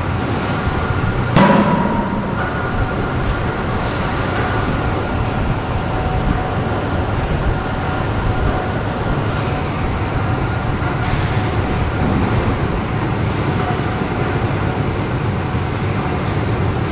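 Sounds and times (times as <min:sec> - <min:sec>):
industrial machinery rumble: 0:00.0 - 0:16.9.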